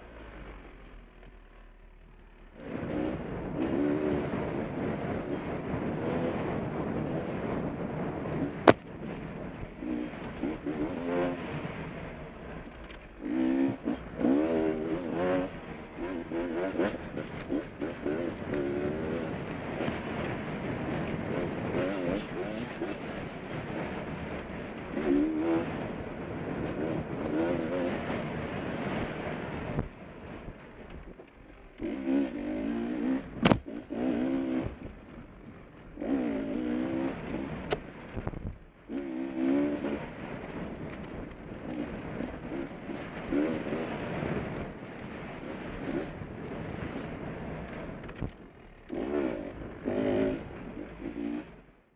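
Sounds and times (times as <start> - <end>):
dirt bike engine revving: 2.4 - 30.4, 31.7 - 35.3, 35.9 - 37.9, 38.8 - 48.1, 48.8 - 51.6.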